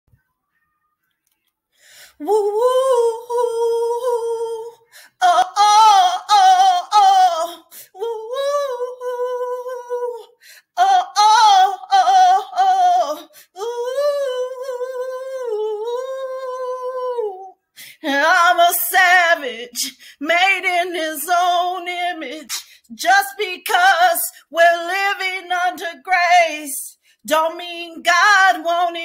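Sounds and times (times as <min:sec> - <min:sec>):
woman singing without words: 0:01.9 - 0:29.0.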